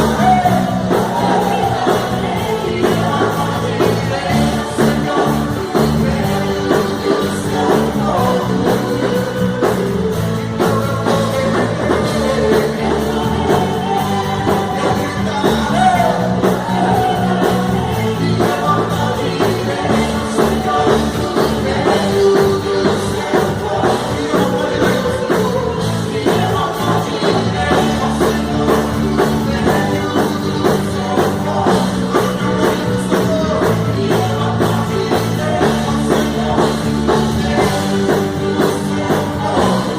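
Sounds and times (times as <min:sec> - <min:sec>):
drum kit beat: 0:00.0 - 0:39.9
person singing: 0:00.0 - 0:39.9
rock band playing: 0:00.0 - 0:39.9.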